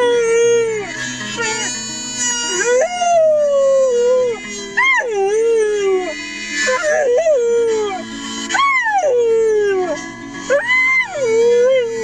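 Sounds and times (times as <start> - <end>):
harmonica chords: 0.0 - 12.0
puppy howling: 0.0 - 12.0.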